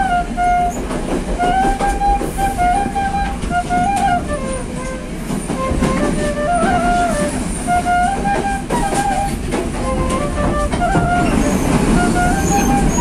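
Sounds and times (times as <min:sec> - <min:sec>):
bamboo flute melody: 0:00.0 - 0:13.0
train carriage rumble and clatter: 0:00.0 - 0:13.0.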